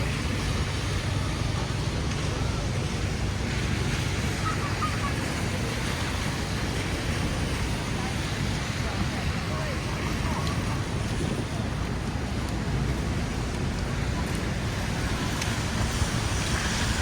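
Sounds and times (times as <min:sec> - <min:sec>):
city street traffic rumble: 0:00.0 - 0:17.0
wind noise: 0:00.0 - 0:17.0.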